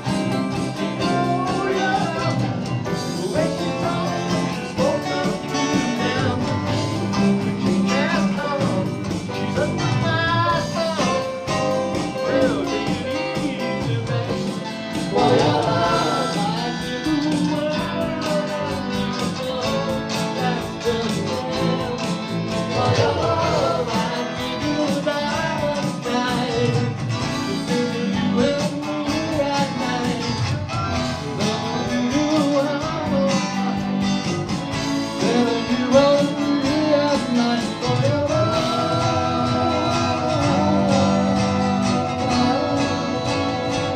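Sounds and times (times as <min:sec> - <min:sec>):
drums: 0:00.0 - 0:43.9
electric guitars: 0:00.0 - 0:43.9
man singing lead: 0:00.0 - 0:43.9.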